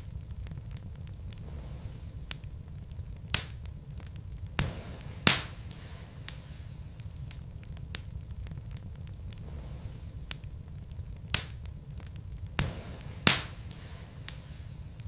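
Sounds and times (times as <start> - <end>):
fire crackling in fireplace: 0.0 - 15.0
sharp pops of burning wood: 0.0 - 15.0.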